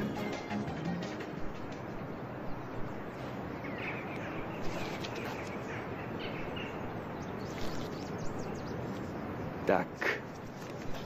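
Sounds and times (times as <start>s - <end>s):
steady background hiss: 0.0s - 11.0s
small birds chirping: 1.4s - 11.0s.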